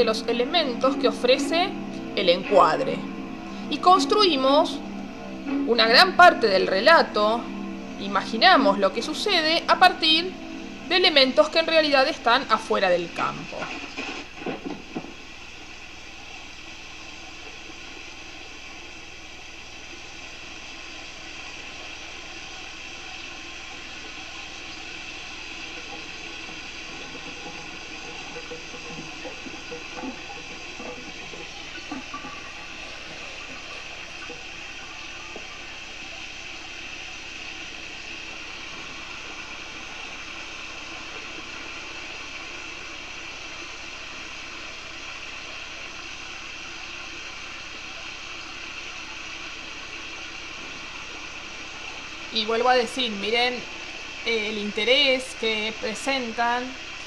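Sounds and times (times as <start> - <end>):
shower spraying water: 0.0 - 57.0.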